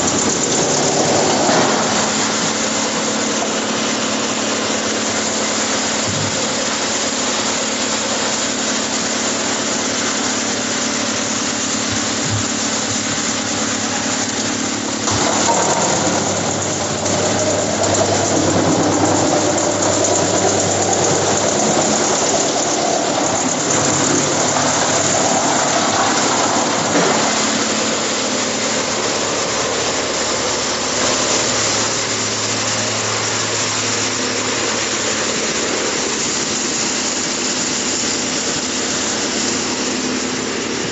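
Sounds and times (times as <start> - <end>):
wood chipper running: 0.0 - 40.9.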